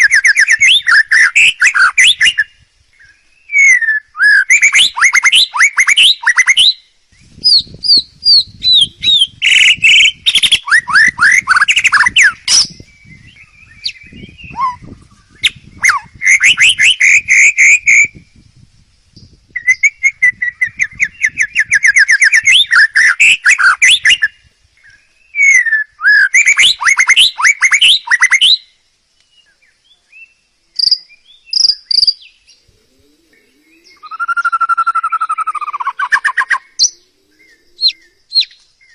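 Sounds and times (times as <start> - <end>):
songbird singing trills: 0.0 - 38.9.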